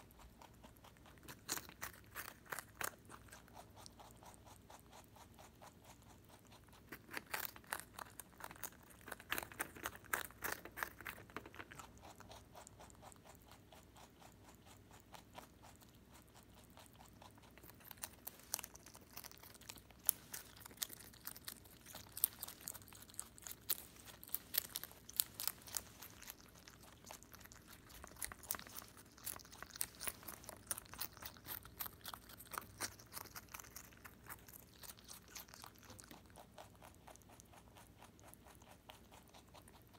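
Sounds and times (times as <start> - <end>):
rabbit crunching leaf: 0.0 - 39.9.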